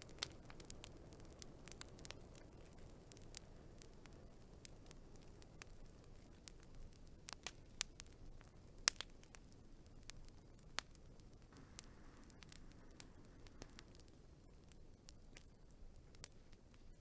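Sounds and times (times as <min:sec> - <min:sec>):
faint low hiss of flames: 0:00.0 - 0:17.0
wood fire crackling and popping: 0:00.0 - 0:17.0.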